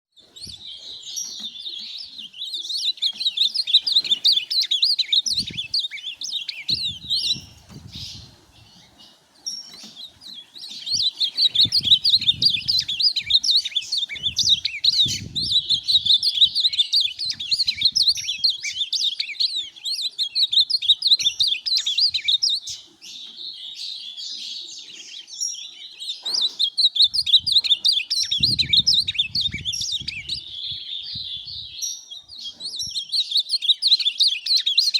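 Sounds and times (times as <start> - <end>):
bird singing rapid warbling notes: 0.1 - 34.9.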